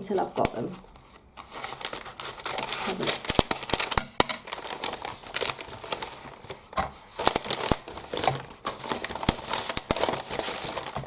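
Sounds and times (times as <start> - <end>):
packaging crinkling: 0.2 - 11.0.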